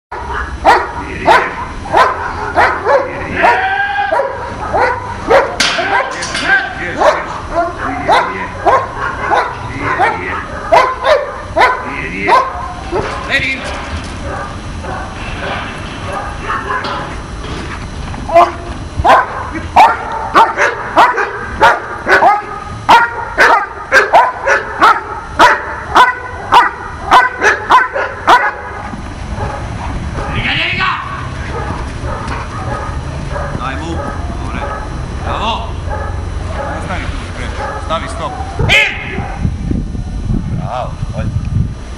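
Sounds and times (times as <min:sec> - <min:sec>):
dog barking: 0:00.1 - 0:13.3, 0:14.2 - 0:17.0, 0:18.3 - 0:30.4, 0:31.4 - 0:39.5.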